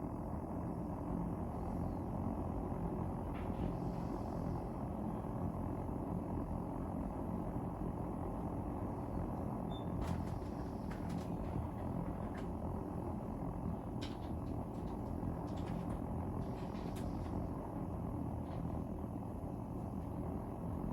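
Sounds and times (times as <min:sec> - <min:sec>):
gas heater flame rumbling: 0:00.0 - 0:20.9.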